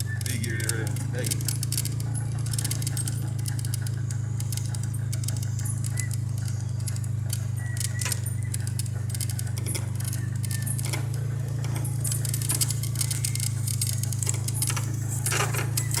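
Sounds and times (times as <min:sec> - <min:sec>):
jangling rattles: 0:00.0 - 0:16.0
vehicle engine drone: 0:00.0 - 0:16.0.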